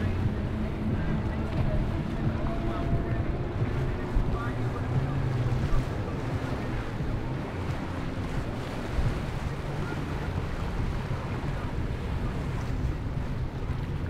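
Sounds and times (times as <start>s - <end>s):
distant jet ski engines: 0.0s - 14.0s
waves washing: 0.0s - 14.0s
wind buffeting microphone: 0.0s - 14.0s.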